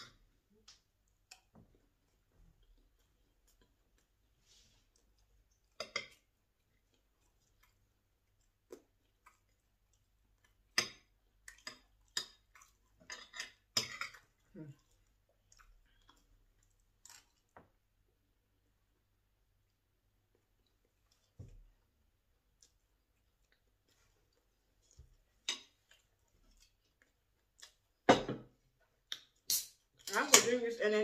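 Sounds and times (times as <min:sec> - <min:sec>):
chewing: 0:00.5 - 0:17.6, 0:20.2 - 0:28.0.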